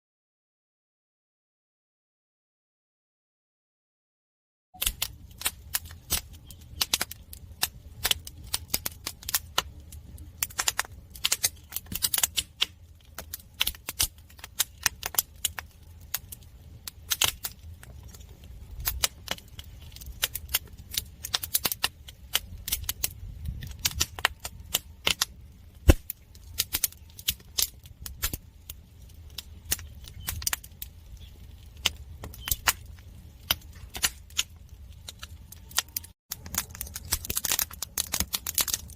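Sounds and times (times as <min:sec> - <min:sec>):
firewood crackling and popping: 0:04.8 - 0:38.9
low steady fire rumble: 0:04.8 - 0:38.9.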